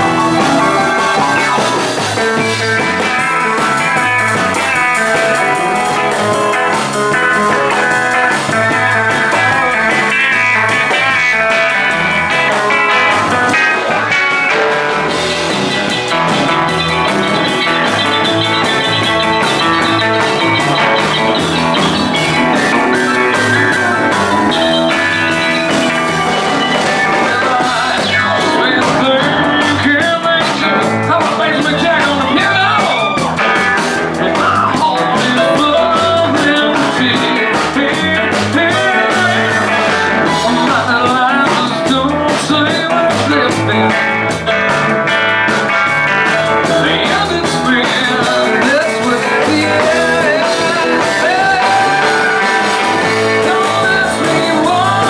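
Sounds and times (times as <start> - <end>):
rockabilly band music: 0.0 - 55.0.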